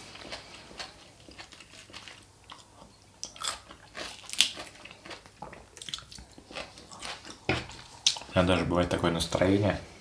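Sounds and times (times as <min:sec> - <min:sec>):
chewing crisp salad: 0:00.0 - 0:08.6.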